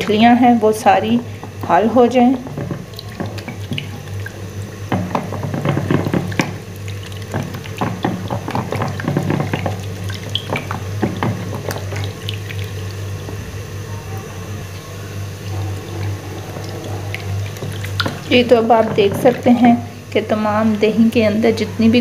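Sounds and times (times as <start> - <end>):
yogurt sloshing and slapping: 0.0 - 21.8.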